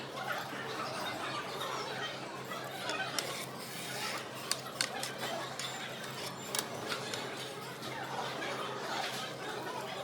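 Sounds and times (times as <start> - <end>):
low room murmur: 0.0 - 10.0.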